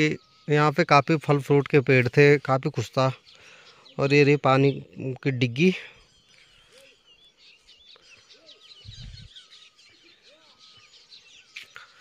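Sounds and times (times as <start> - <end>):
low arched bird calls: 0.0 - 12.0
small birds chirping: 0.0 - 12.0.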